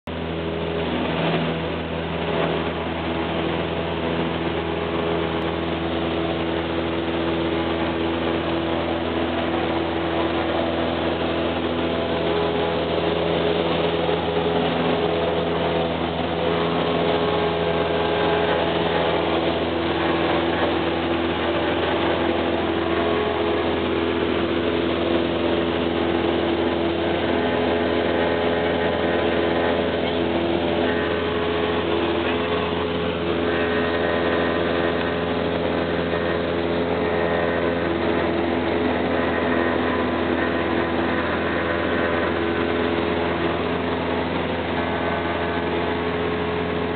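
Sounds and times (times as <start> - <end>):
aircraft engine and propeller: 0.0 - 46.9.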